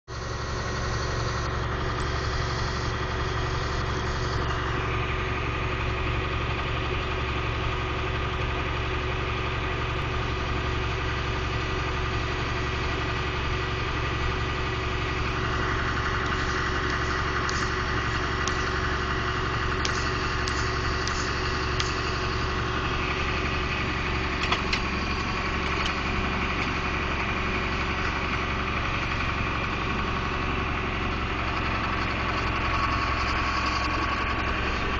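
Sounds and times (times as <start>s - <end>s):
vehicle engine running: 0.1s - 34.9s.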